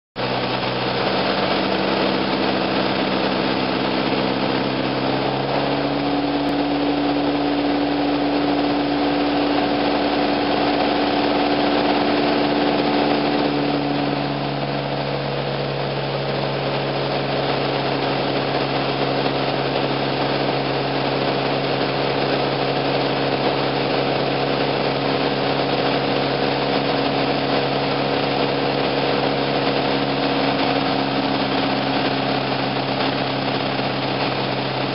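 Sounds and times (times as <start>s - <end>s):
aircraft engine droning in cockpit: 0.2s - 34.9s.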